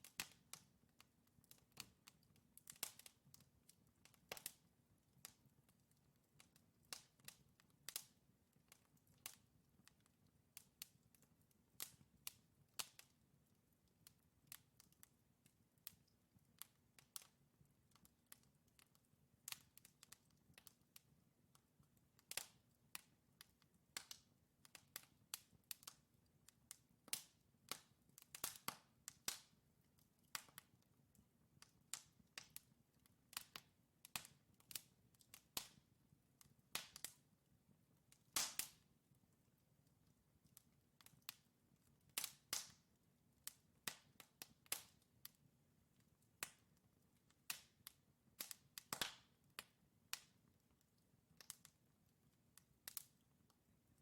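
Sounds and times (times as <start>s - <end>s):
logs crackling and popping: 0.0s - 37.3s, 37.9s - 54.0s.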